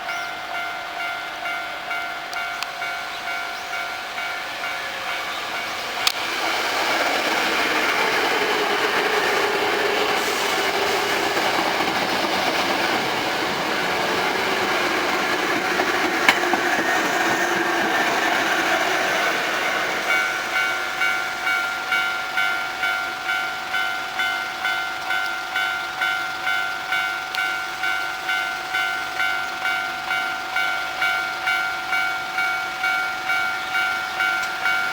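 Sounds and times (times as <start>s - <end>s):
electric train running past: 0.0s - 34.9s
faint crossing warning bell: 0.0s - 34.9s.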